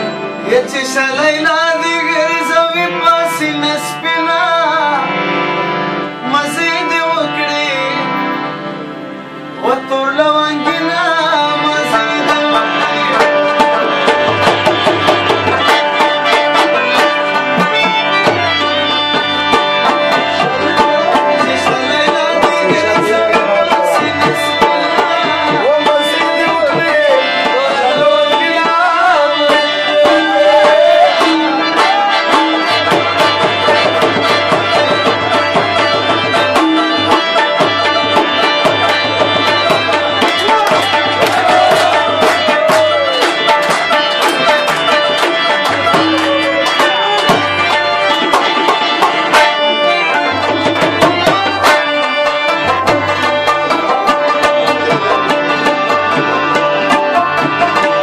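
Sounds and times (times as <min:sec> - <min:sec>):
tabla beat: 0:00.0 - 0:58.0.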